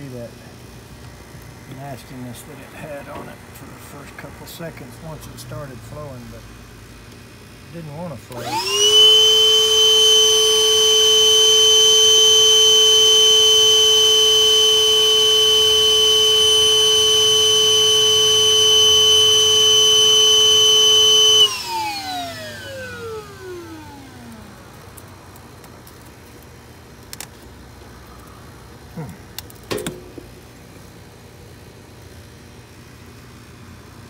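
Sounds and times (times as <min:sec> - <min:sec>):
vacuum motor whine: 0:00.0 - 0:29.2.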